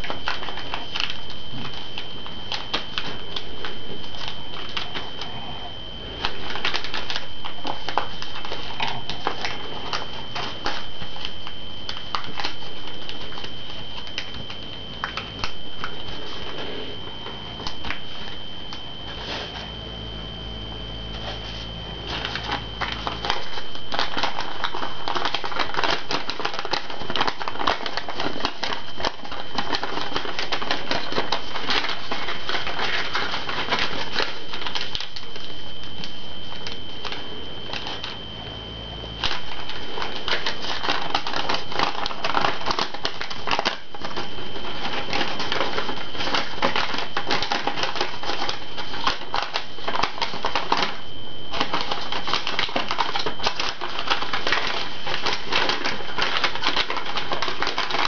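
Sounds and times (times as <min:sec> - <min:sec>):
paper crackling and rustling: 0:00.0 - 0:58.0
steady high whine: 0:00.0 - 0:58.0.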